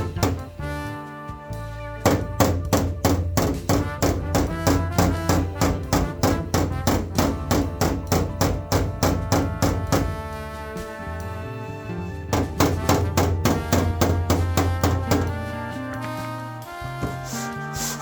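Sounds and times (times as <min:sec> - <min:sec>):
music with fast beat: 0:00.0 - 0:00.6, 0:02.0 - 0:10.8, 0:12.2 - 0:18.0.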